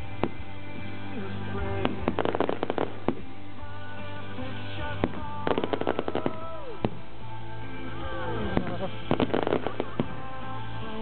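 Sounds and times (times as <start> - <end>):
fireworks bangs: 0.0 - 7.1, 8.3 - 11.0
fireworks crackling: 0.0 - 11.0.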